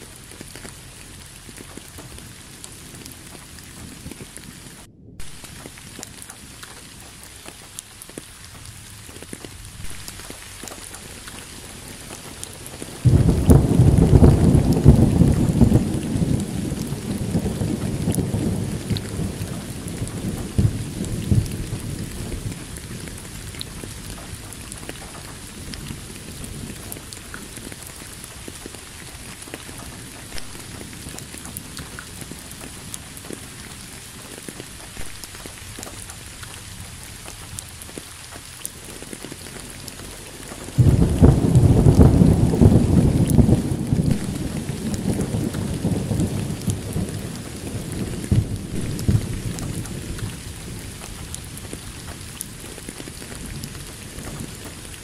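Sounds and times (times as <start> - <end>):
steady rain: 0.0 - 55.0
thunder rumble: 0.0 - 55.0.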